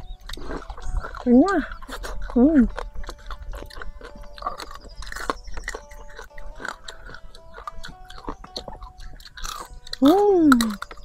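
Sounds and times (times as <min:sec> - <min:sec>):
crunching and chewing: 0:00.0 - 0:11.0.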